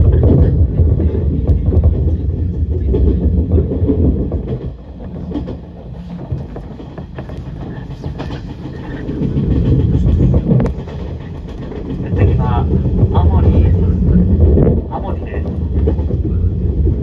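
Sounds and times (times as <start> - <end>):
train running gear rumble: 0.0 - 17.0
wheels clicking over rails: 0.0 - 17.0.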